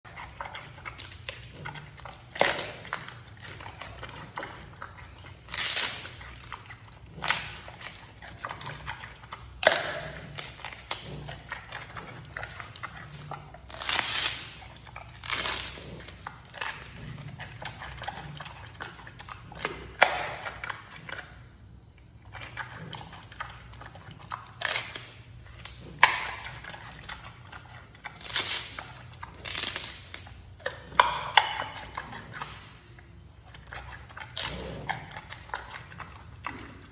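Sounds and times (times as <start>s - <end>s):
panda chewing bamboo crunches: 0.1s - 21.3s, 22.3s - 36.9s.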